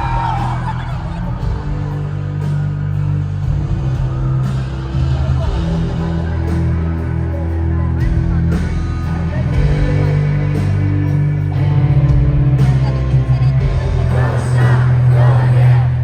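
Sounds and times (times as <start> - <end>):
bass notes: 0.0 - 16.0
drums: 0.0 - 16.0
electric guitar: 0.0 - 16.0.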